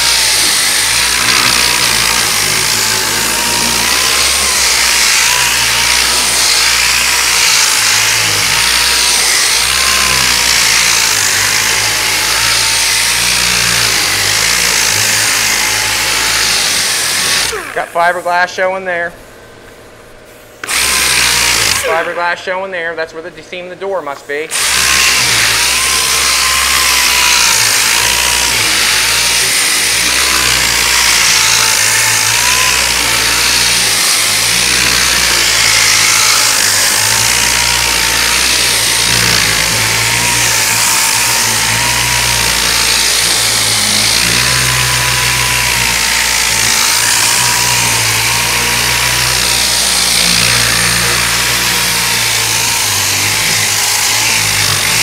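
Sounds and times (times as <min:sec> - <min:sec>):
power sander sanding: 0:00.0 - 0:19.1, 0:20.4 - 0:55.0.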